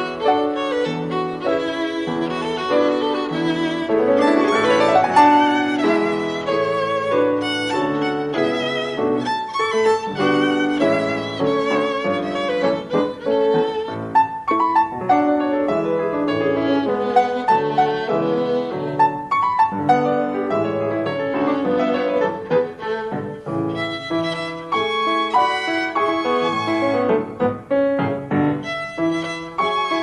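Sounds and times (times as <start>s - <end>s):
violin melody with vibrato: 0.0s - 30.0s.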